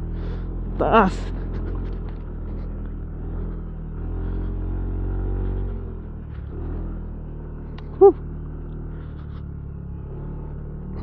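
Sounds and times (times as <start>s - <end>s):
road and wind rumble: 0.0s - 11.0s
scooter engine pulling uphill: 0.0s - 11.0s.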